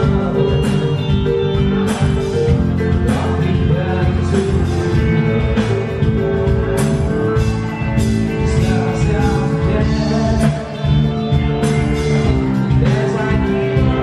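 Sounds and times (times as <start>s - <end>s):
man singing long held notes: 0.0s - 1.8s, 2.4s - 7.1s, 8.4s - 11.4s, 12.0s - 14.0s
live rock band playing: 0.0s - 14.0s.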